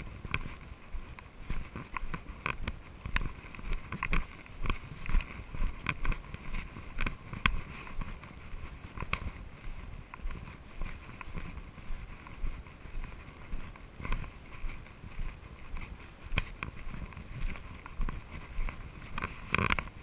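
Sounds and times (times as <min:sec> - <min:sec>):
camera handling rumble: 0:00.2 - 0:14.9, 0:15.7 - 0:20.0.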